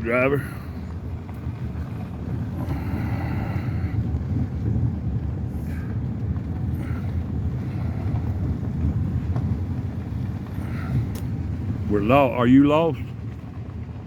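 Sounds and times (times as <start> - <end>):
truck engine and tyres rumbling: 0.0 - 14.0.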